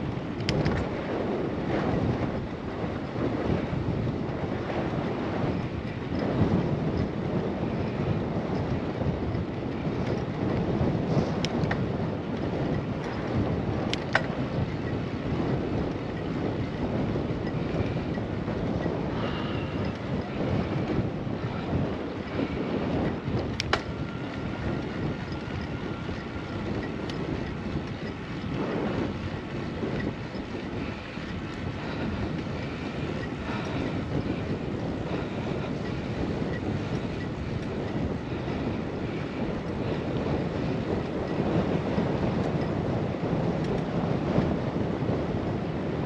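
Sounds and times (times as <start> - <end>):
bike clicks: 0.0 - 46.0
tyre and road noise: 0.0 - 46.0
wind rushing over microphone: 0.0 - 46.0.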